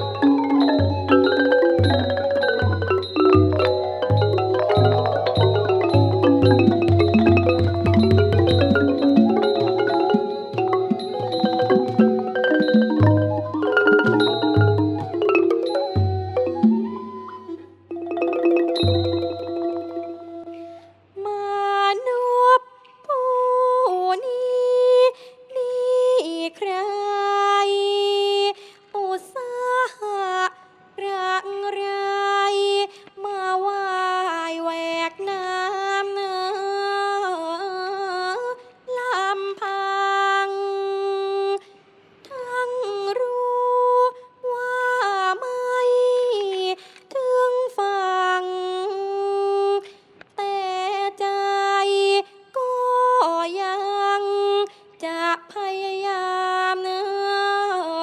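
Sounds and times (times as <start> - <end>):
woman singing: 0.0 - 17.2, 21.2 - 58.0.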